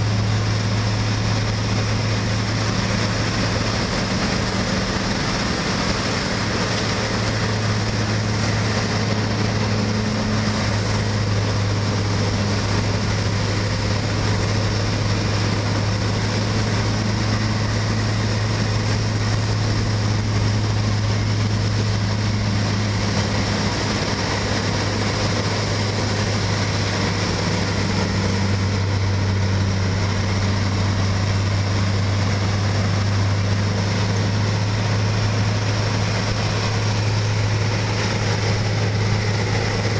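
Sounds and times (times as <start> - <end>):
cutting drum grinding road: 0.0 - 39.9
heavy diesel engine drone: 0.0 - 39.9.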